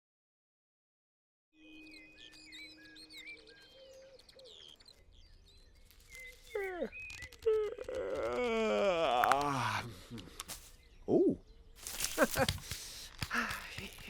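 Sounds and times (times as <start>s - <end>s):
small birds chirping: 1.6s - 14.0s.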